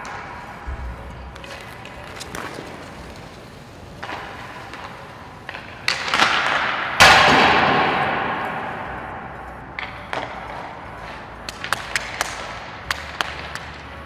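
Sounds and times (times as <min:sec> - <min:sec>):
stick striking puck: 0:00.0 - 0:13.9.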